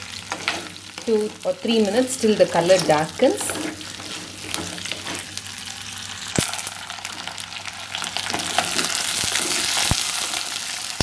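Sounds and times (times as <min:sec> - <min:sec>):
vegetable pieces sizzling in oil: 0:00.0 - 0:11.0.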